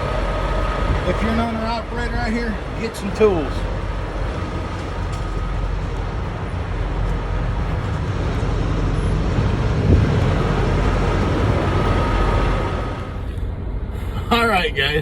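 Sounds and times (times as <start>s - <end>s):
idling trucks and road traffic: 0.0s - 15.0s.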